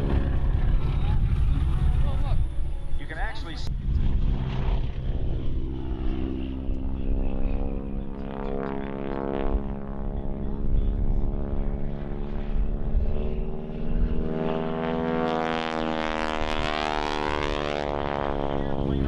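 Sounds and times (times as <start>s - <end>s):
biplane engine droning overhead: 0.0s - 19.0s.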